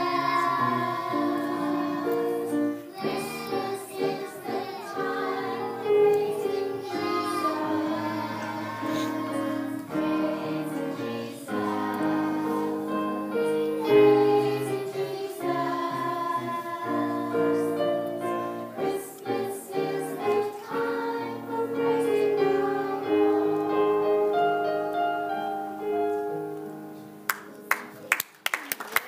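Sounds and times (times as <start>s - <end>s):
children's choir singing: 0.0s - 25.5s
piano accompaniment: 0.0s - 28.1s.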